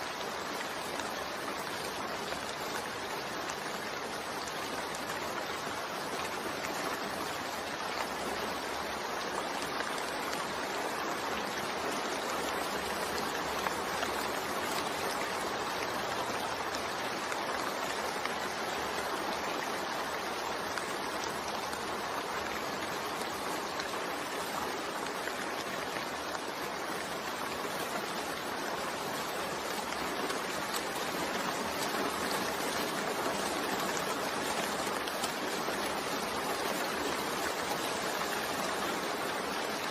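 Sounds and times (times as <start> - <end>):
gentle rain hissing: 0.0 - 39.9.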